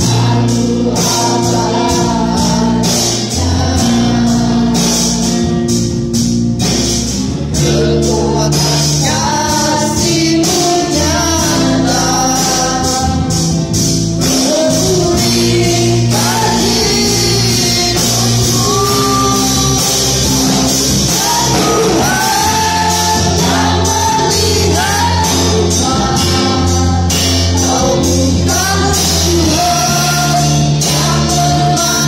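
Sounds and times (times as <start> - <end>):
bass line: 0.0 - 32.0
drums with cymbals: 0.0 - 32.0
singers: 0.0 - 32.0.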